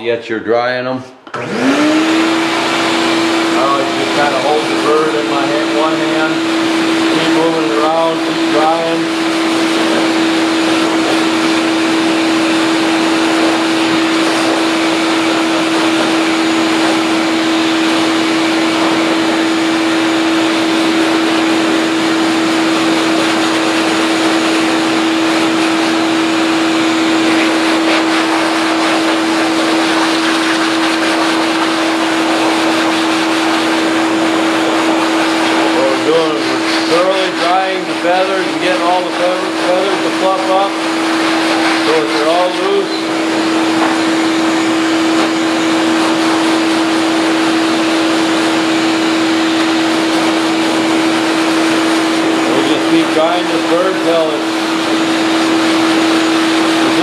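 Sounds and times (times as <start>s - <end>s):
shop vac blowing air: 0.0s - 57.0s.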